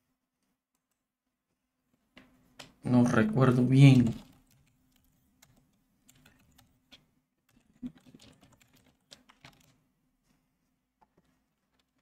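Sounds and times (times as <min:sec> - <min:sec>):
faint keyboard typing: 0:00.4 - 0:12.0.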